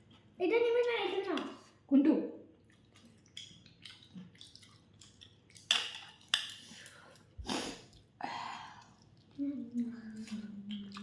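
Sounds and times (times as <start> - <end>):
soft chewing: 0.0 - 1.9, 2.5 - 11.0.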